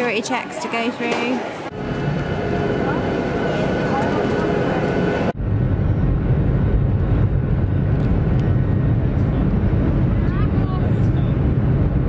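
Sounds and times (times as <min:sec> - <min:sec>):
jet engines rumbling in cabin: 0:01.7 - 0:12.0.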